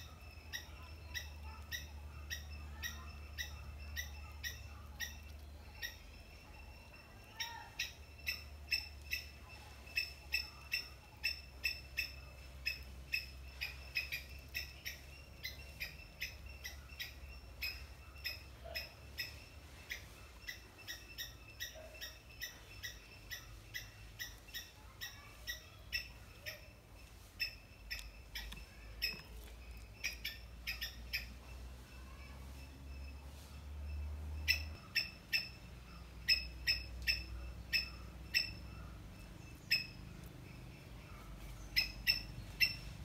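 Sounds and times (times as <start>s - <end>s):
squirrel chirping: 0.0s - 43.0s.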